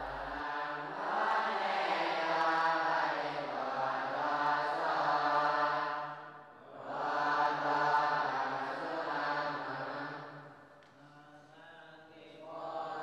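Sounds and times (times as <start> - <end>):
monks chanting in unison: 0.0 - 13.0.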